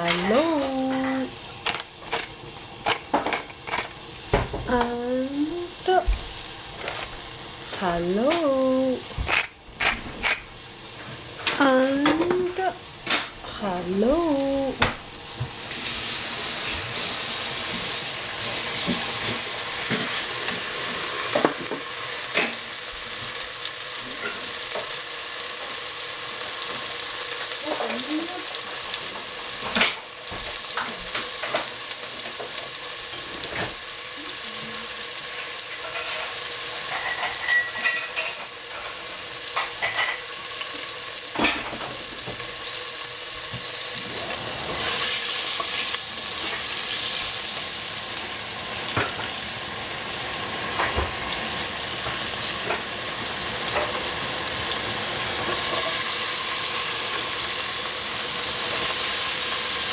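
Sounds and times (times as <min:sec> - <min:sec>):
mushrooms sizzling in a pan: 0:00.0 - 0:59.9.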